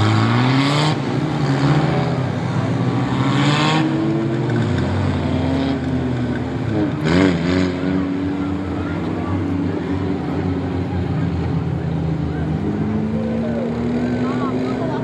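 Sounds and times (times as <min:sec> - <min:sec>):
engine revving: 0:00.0 - 0:15.0
race car engines passing: 0:00.0 - 0:15.0.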